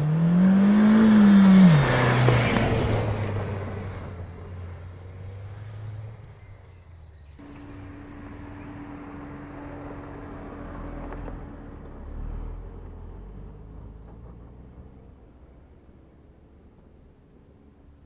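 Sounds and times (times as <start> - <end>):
car engine rumbling off-road: 0.0 - 17.7.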